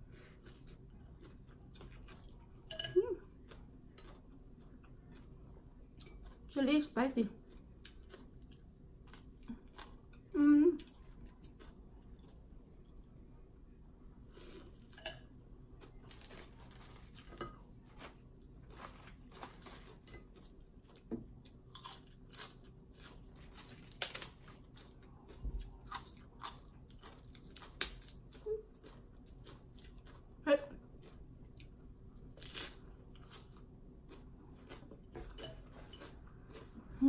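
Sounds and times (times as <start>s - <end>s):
person chewing food: 0.0s - 6.5s, 7.4s - 13.6s, 14.2s - 37.0s.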